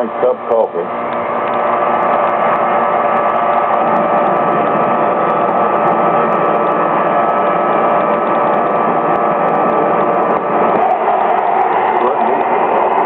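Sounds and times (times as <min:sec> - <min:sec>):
propane burner flame rushing: 0:00.0 - 0:13.0
steady hum: 0:00.0 - 0:13.0.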